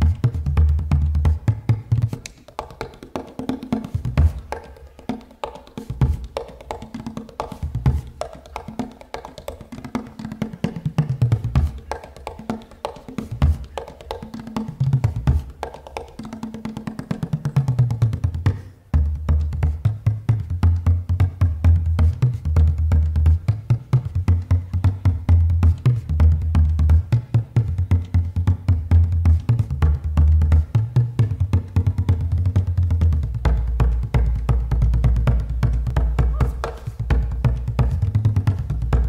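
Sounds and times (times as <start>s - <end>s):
frame drum playing fast rhythm: 0.0s - 39.0s.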